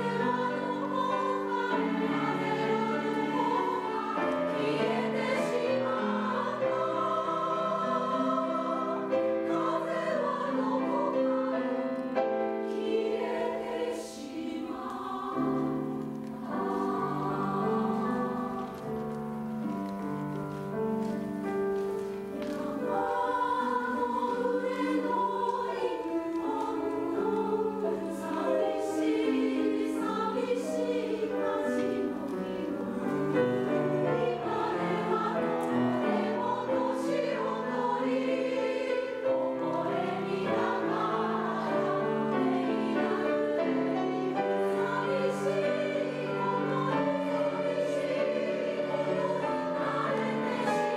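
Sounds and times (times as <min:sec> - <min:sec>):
grand piano: 0:00.0 - 0:50.9
women's choir singing: 0:00.0 - 0:50.9.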